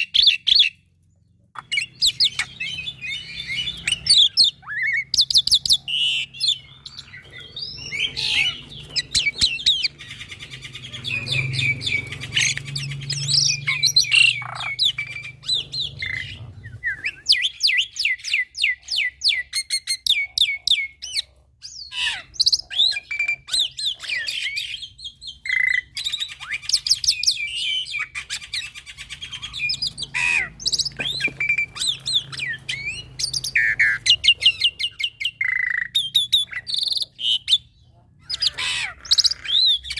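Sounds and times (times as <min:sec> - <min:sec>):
starling singing: 0:00.0 - 0:00.8, 0:01.5 - 0:39.9.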